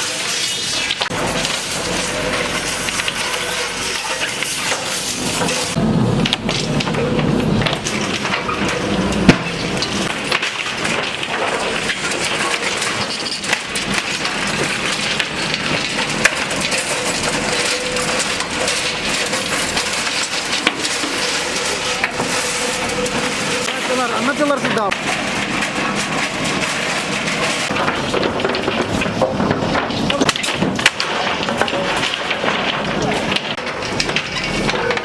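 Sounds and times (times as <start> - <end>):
cracks and knocks: 0.0 - 35.0
demolition rumble: 0.0 - 35.0.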